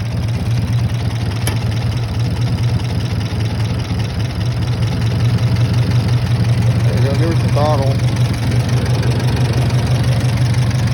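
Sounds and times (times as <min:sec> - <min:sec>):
tractor engine idling: 0:00.0 - 0:10.9.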